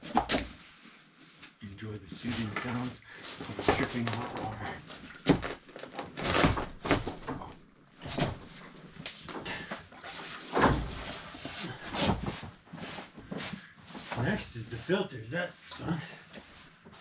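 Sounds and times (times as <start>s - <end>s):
quiet shuffling: 0.6s - 17.0s.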